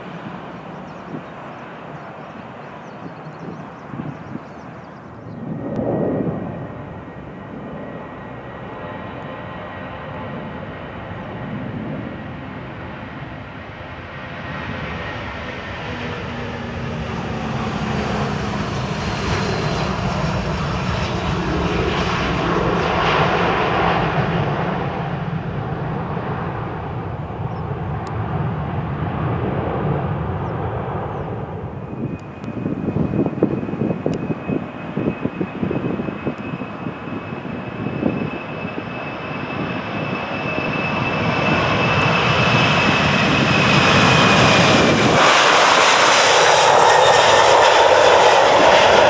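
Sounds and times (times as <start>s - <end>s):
jet engines taking off: 0.0s - 49.0s.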